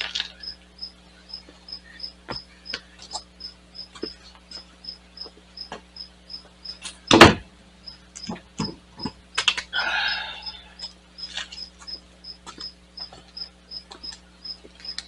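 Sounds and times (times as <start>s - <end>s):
crickets chirping: 0.0s - 7.2s, 7.8s - 15.0s.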